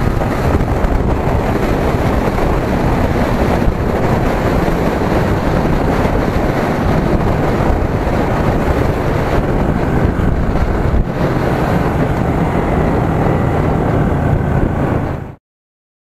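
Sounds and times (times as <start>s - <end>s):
motorcycle engine running: 0.0s - 15.4s
wind rushing on microphone: 0.0s - 15.4s.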